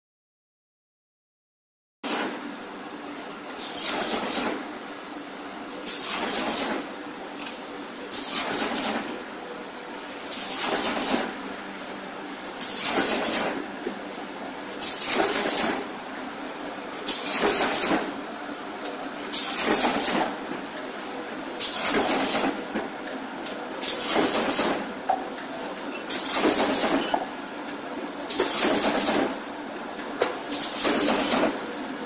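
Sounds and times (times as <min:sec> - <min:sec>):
machine running noise: 0:02.1 - 0:32.0.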